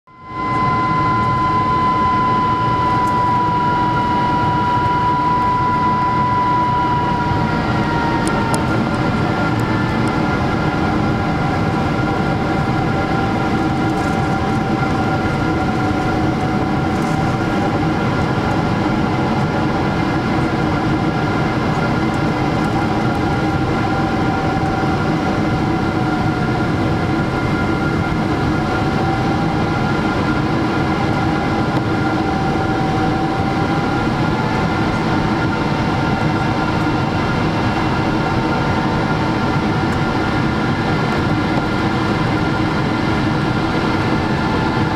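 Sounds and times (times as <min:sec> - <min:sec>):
airplane cabin noise: 0:00.1 - 0:44.9.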